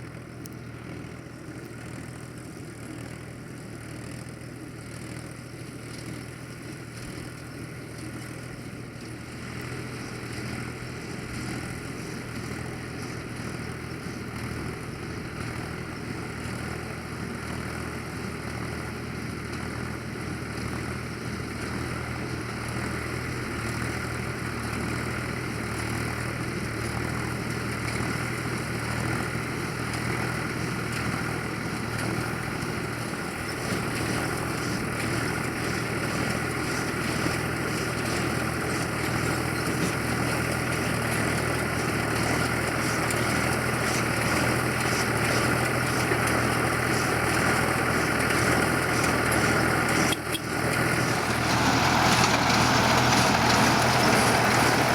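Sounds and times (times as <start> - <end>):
tractor engine running under load: 0.0 - 54.9.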